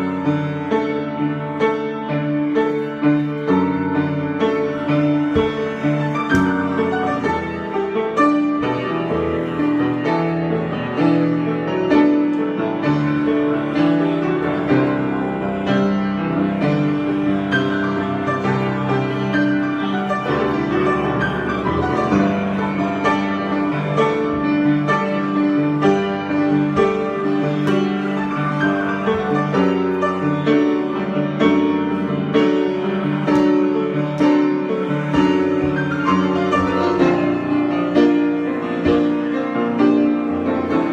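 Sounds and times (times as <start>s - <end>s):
solo piano improvisation: 0.0s - 40.9s.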